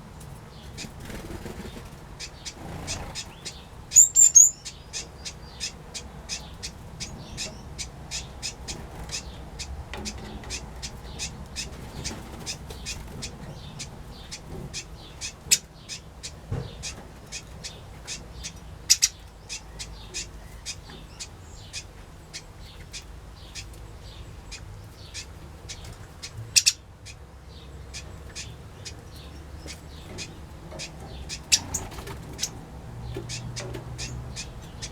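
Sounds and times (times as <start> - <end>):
birds chirping: 0.0 - 34.9
louder bird calls: 0.6 - 34.9.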